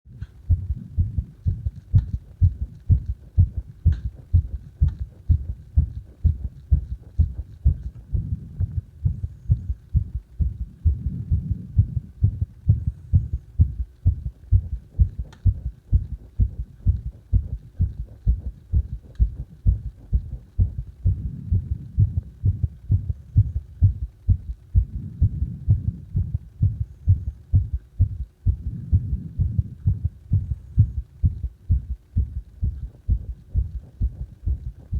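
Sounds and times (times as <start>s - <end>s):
human heartbeat: 0.1s - 34.9s.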